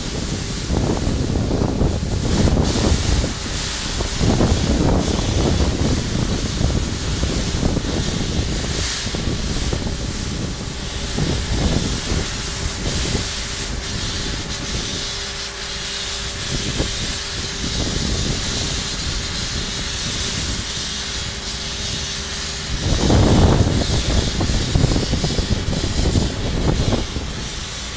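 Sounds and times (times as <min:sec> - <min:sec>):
sandblasting hiss and rumble: 0:00.0 - 0:27.9.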